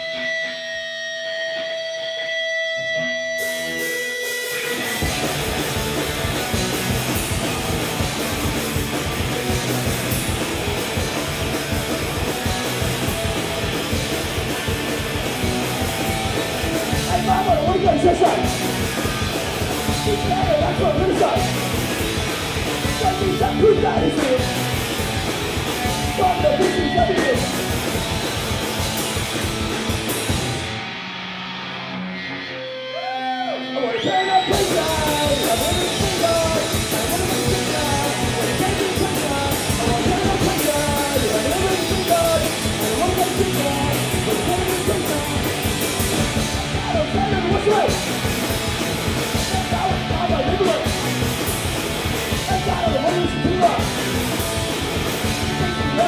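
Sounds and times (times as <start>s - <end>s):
electric guitar notes: 0.0s - 56.0s
live rock band playing: 0.0s - 56.0s.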